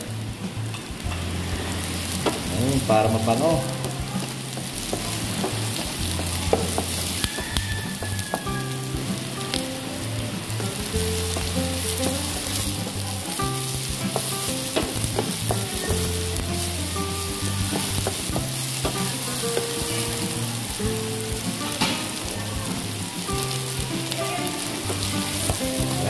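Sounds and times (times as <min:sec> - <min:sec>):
vegetables sizzling in oil: 0:00.0 - 0:26.0
wooden spatula scraping wok: 0:00.4 - 0:26.0.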